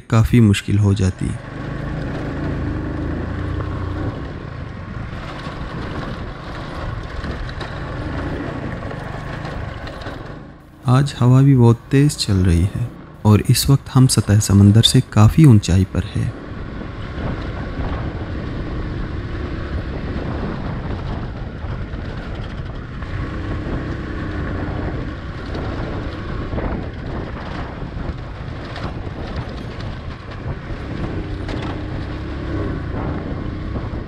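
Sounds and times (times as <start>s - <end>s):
motorcycle engine running: 1.4s - 13.8s, 16.3s - 34.0s
wind buffeting microphone: 1.5s - 14.9s, 16.3s - 34.0s.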